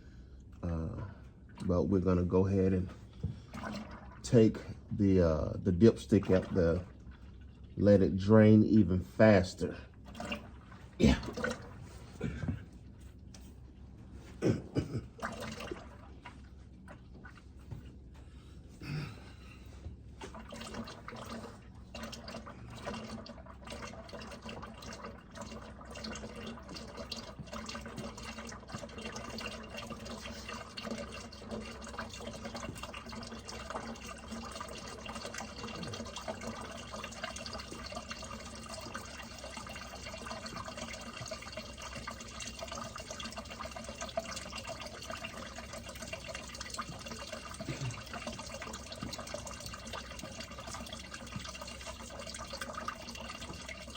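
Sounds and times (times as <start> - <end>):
engine oil pouring from drain hole: 0.4 - 12.4, 15.2 - 17.4, 20.2 - 53.9.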